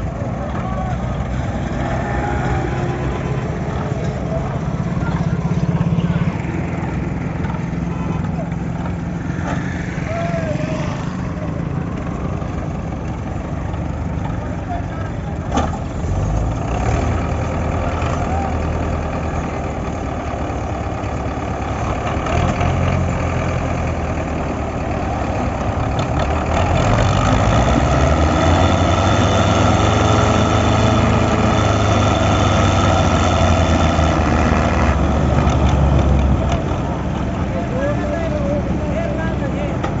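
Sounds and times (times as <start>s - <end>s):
tractor diesel engines running: 0.0s - 40.0s.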